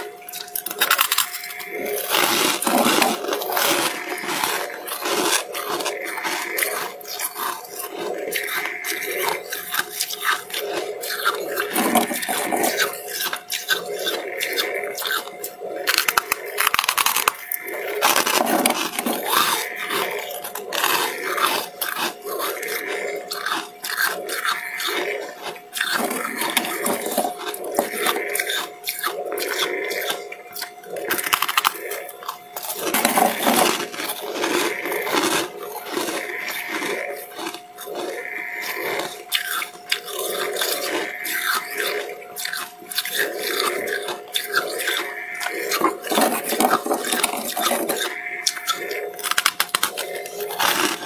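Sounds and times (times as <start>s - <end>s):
crisp chewing crunches: 0.0s - 51.0s
faint steady hum: 0.0s - 51.0s.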